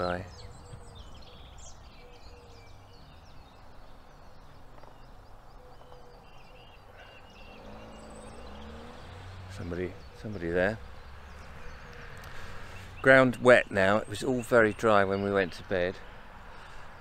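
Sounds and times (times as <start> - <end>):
distant road traffic rumble: 0.0 - 17.0
songbirds chirping and trilling: 0.0 - 17.0.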